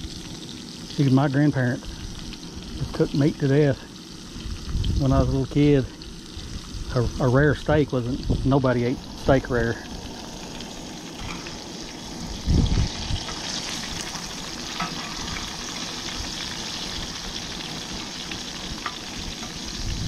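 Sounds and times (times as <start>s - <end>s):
fish frying in hot oil: 0.0s - 20.0s
oil popping: 0.0s - 20.0s.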